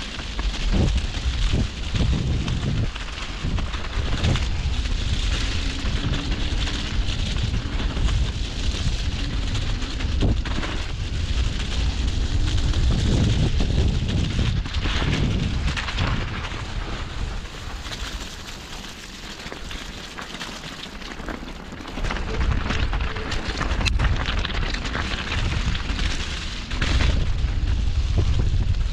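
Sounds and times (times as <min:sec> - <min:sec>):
wind rushing over microphone: 0:00.0 - 0:18.3, 0:21.9 - 0:28.9.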